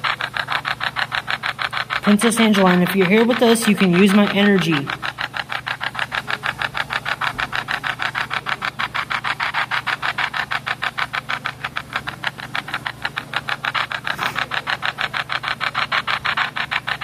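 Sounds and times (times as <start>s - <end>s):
rapid chopping radio static: 0.0s - 17.0s
steady low hum: 0.0s - 17.0s.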